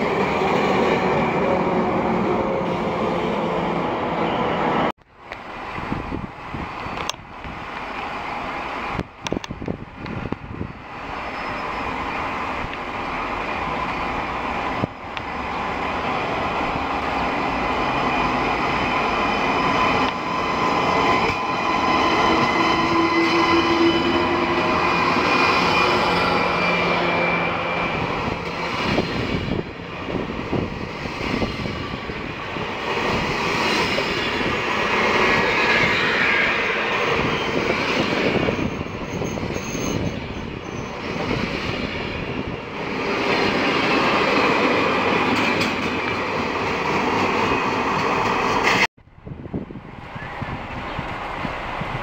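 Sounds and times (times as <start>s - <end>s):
train rolling past: 0.0s - 52.0s.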